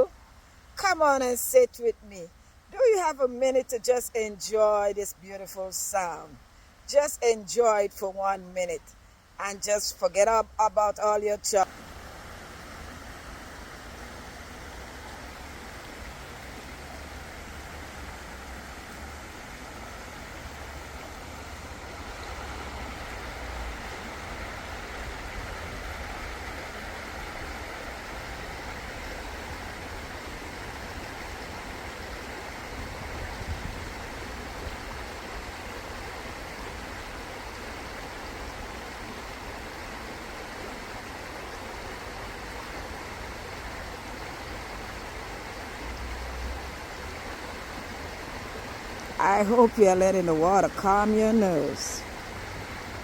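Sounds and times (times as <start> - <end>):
river water rushing: 4.7 - 53.0.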